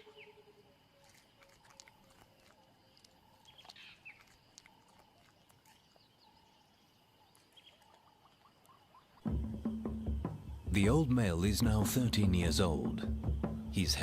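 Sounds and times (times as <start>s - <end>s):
soft bird calls: 0.0s - 14.0s.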